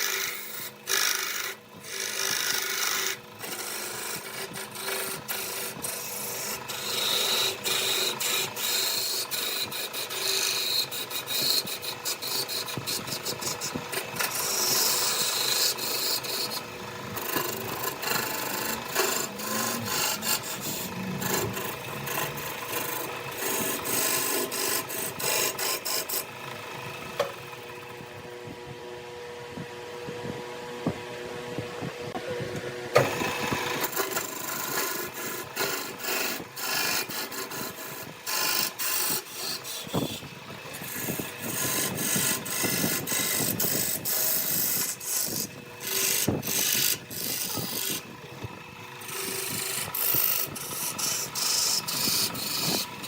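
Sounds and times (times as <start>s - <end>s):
wood cutting on a lathe: 0.0s - 28.6s, 31.9s - 53.0s
lathe hum: 0.0s - 53.0s.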